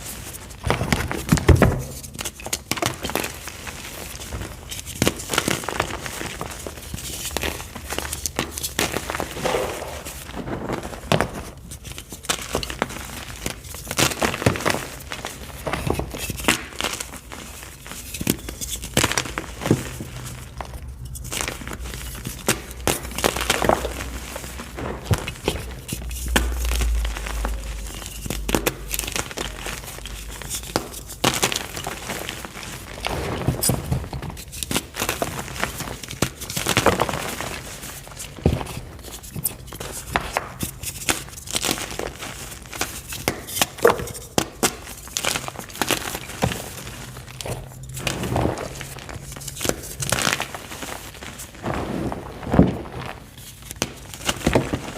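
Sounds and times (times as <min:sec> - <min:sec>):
chalk crushing and crumbling: 0:00.0 - 0:54.9.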